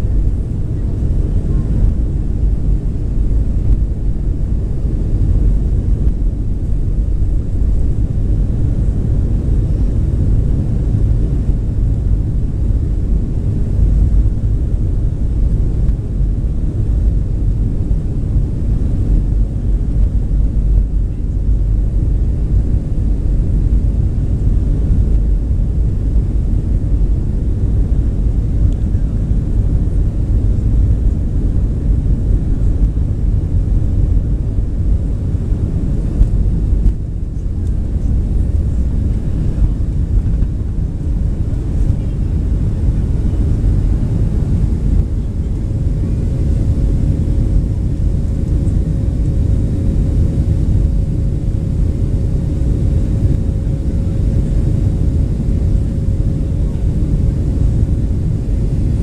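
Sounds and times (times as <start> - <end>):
jet cabin rumble on runway: 0.0 - 59.0.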